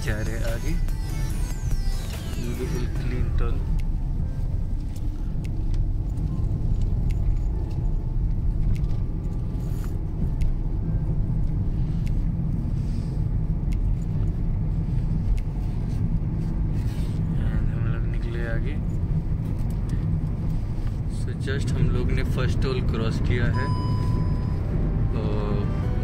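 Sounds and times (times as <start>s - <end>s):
car interior road rumble: 0.0s - 26.0s.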